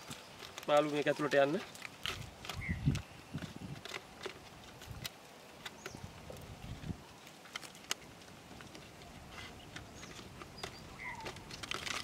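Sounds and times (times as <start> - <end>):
plastic bottle clicking and crackling: 0.0 - 12.0.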